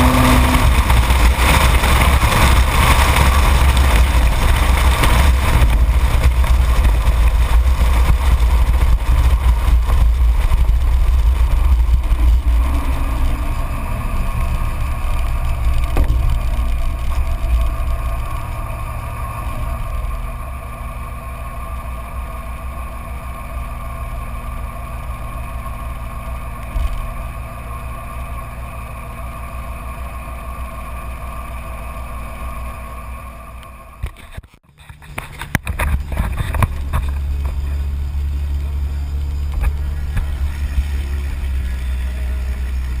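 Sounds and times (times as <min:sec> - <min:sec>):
tyre and wind noise: 0:00.0 - 0:29.1, 0:34.0 - 0:43.0
diesel truck engine: 0:00.0 - 0:43.0.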